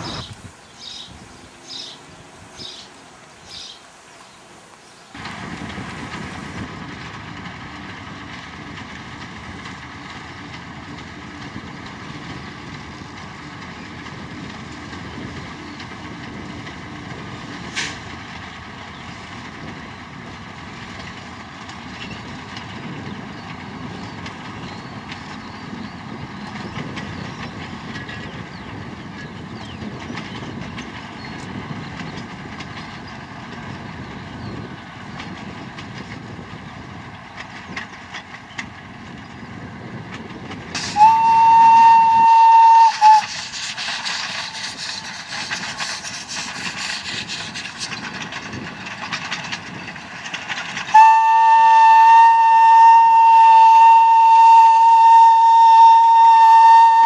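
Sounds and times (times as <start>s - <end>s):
diesel locomotive running: 0.0s - 57.0s.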